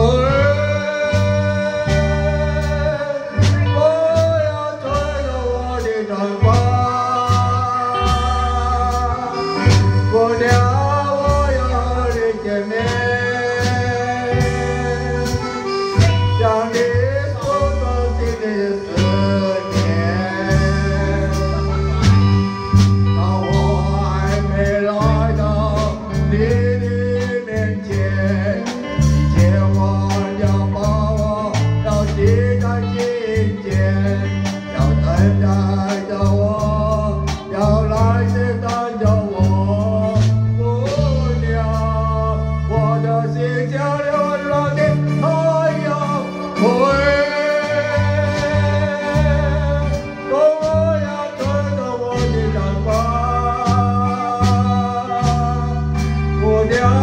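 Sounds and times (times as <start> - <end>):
steady drum beat: 0.0 - 43.0, 43.8 - 57.0
bass line: 0.0 - 57.0
guitar: 0.0 - 57.0
person singing: 0.0 - 57.0.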